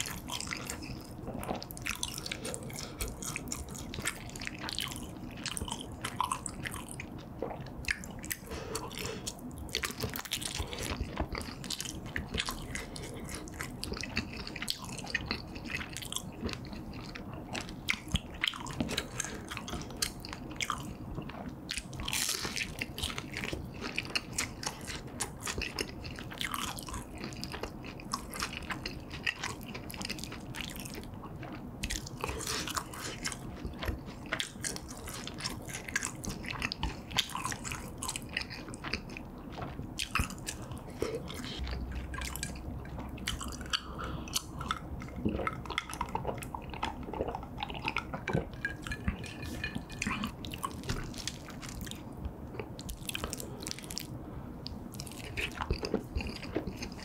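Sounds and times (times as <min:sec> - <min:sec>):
biting and chewing food: 0:00.0 - 0:57.0.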